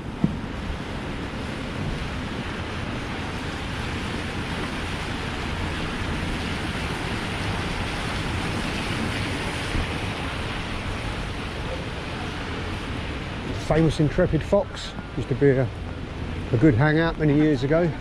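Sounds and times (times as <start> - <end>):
heavy rain on street: 0.0 - 18.0.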